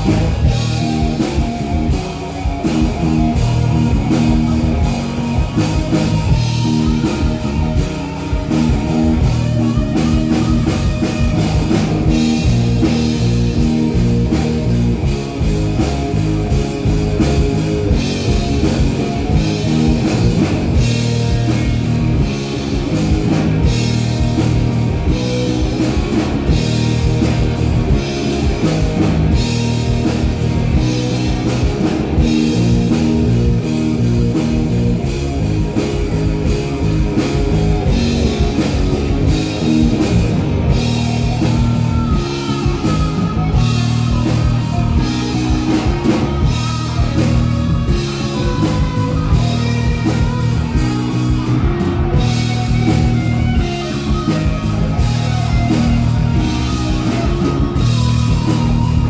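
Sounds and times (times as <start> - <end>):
live blues-rock band: 0.0 - 59.0.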